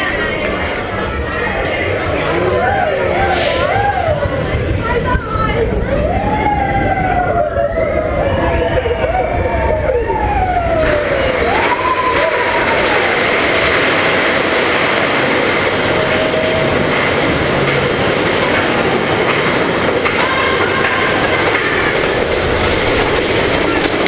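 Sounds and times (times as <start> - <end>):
roller coaster rattling on track: 0.0 - 24.0.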